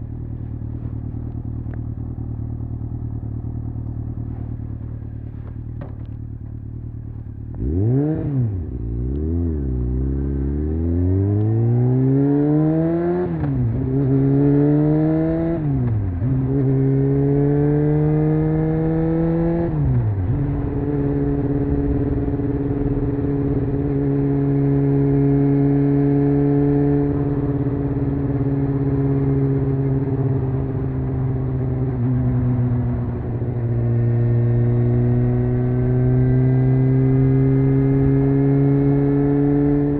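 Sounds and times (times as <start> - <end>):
motorcycle engine revving and shifting: 0.0 - 39.9.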